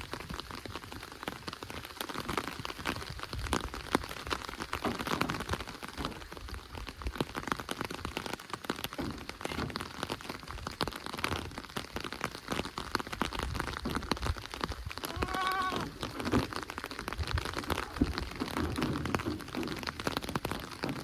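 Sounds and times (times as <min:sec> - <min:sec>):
rain falling on a surface: 0:00.0 - 0:21.0.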